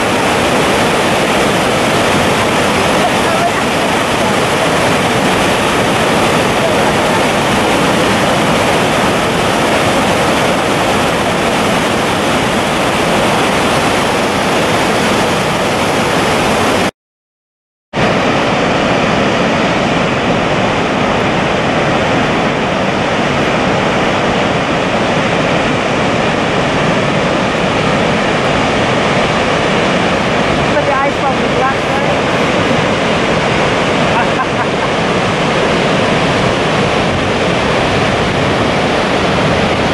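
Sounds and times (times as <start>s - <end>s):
waterfall rushing: 0.0s - 16.9s, 18.0s - 39.9s.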